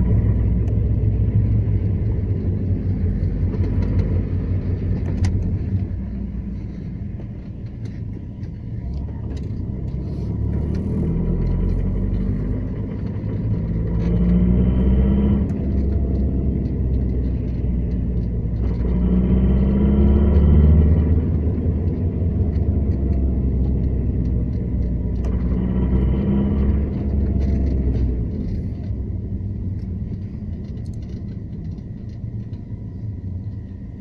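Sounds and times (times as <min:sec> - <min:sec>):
diesel engine rumbling under load: 0:00.0 - 0:34.0
extraneous engine noise: 0:00.0 - 0:34.0.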